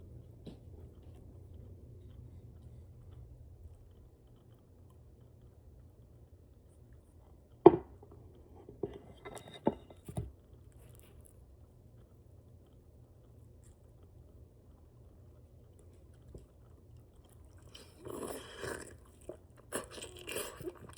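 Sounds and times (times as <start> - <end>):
eating smacks and clicks: 0.0 - 7.6, 10.4 - 20.9
low steady hum: 0.0 - 20.9.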